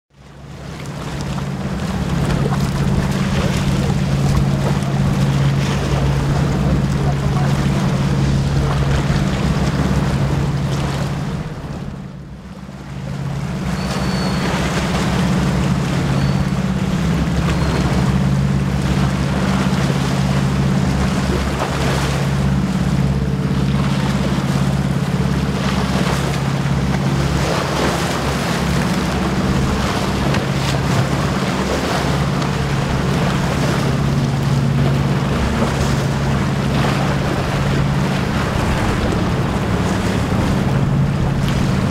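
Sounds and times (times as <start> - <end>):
boat engines droning: 0.1 - 41.9
water rushing from hull: 0.1 - 41.9.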